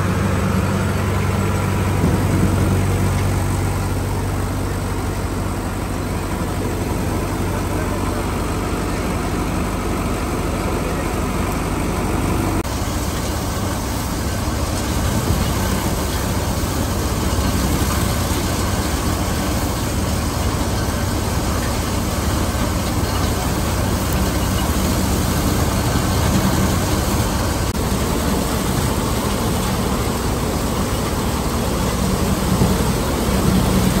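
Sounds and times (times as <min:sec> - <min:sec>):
threshing machine running: 0:00.0 - 0:34.0.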